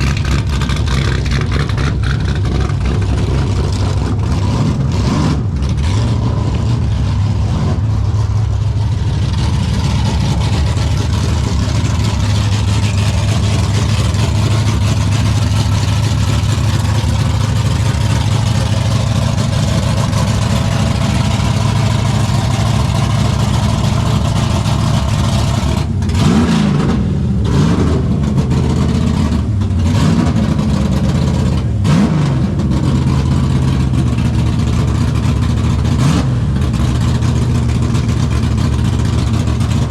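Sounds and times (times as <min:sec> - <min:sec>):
car engine revving: 0:00.0 - 0:39.9
car engines running: 0:00.0 - 0:39.9.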